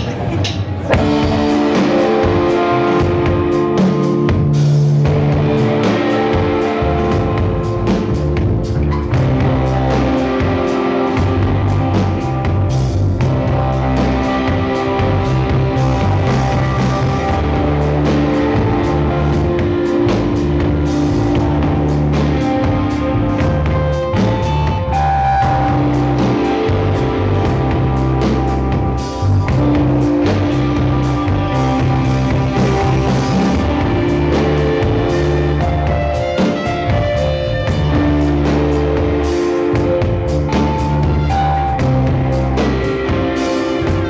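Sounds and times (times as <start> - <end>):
drum kit: 0.0 - 44.0
electric bass guitar: 0.0 - 44.0
live rock band playing: 0.8 - 44.0.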